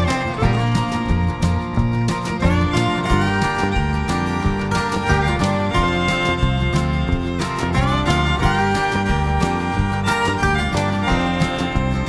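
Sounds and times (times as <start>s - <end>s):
country instrumental with guitar: 0.0s - 12.0s.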